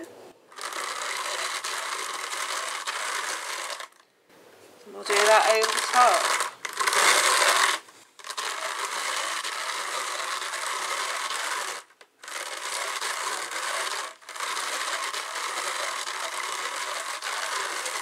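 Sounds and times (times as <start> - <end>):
drum carder whirring: 0.0 - 4.0, 5.0 - 18.0.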